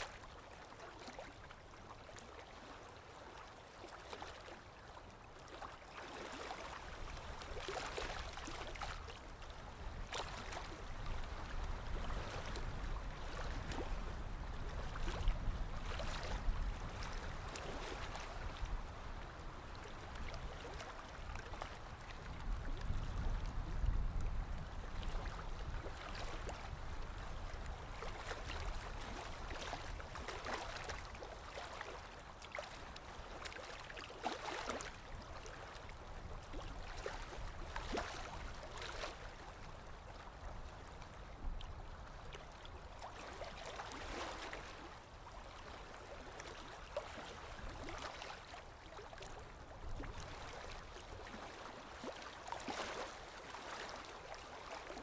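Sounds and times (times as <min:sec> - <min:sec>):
water flowing and splashing: 0:00.0 - 0:55.0.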